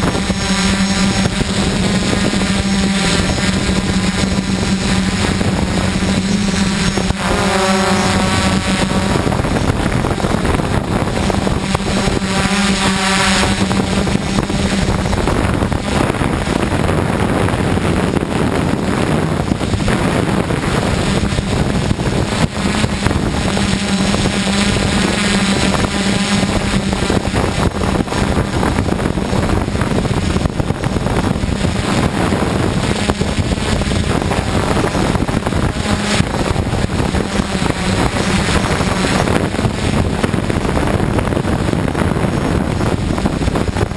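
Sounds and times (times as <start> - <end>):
drone motors humming: 0.0 - 43.9
wind buffeting microphone: 0.0 - 43.9.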